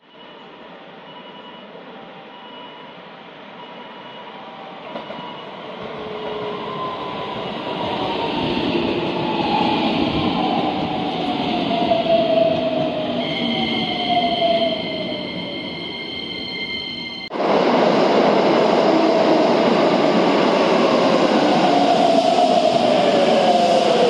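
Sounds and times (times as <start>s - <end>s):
electric train arriving: 0.0s - 24.0s.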